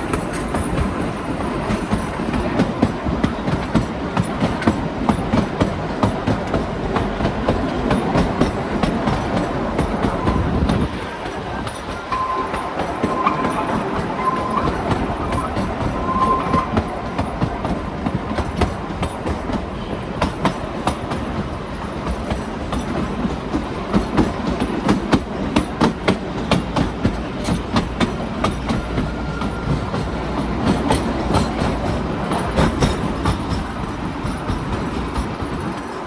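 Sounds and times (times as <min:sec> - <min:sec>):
wheels clicking over rail joints: 0:00.0 - 0:36.0.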